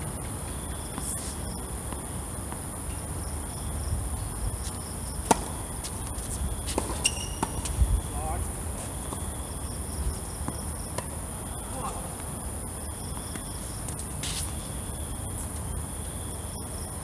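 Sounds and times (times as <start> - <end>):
steady high-pitched whine: 0.0 - 17.0.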